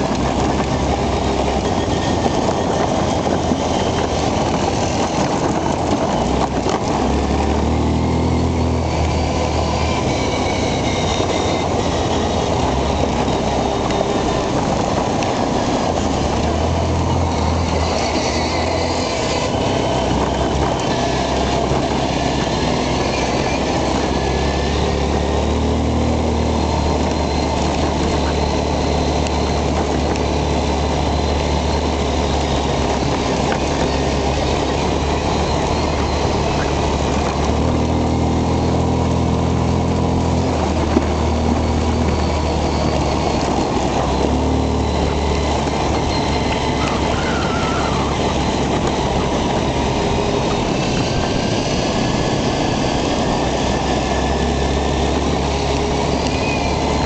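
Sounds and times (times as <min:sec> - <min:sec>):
quad bike engine running: 0:00.0 - 0:57.0
tyres rumbling on gravel: 0:00.0 - 0:57.0.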